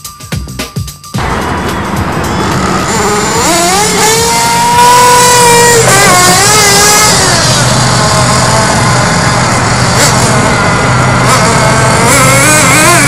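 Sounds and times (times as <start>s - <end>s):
small nitro engine revving: 1.2s - 13.0s.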